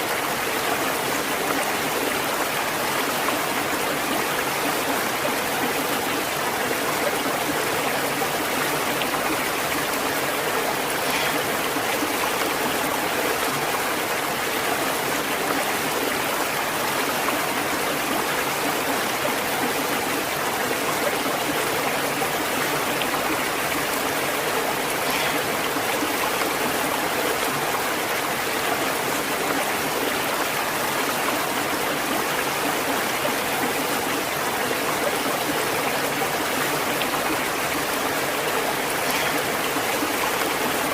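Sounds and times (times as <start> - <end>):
stream of running water: 0.0 - 40.9.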